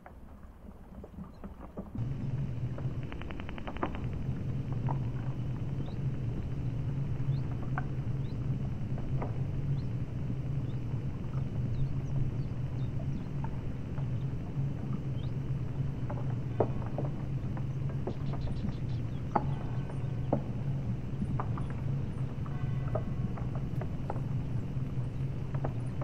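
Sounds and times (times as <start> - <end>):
rattle of clicks: 1.9 - 26.0
ship engine humming: 2.0 - 26.0.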